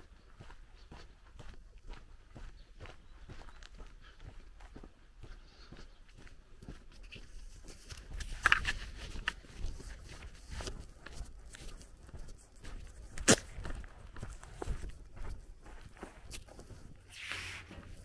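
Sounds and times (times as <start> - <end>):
footsteps on gravel: 0.0 - 18.0.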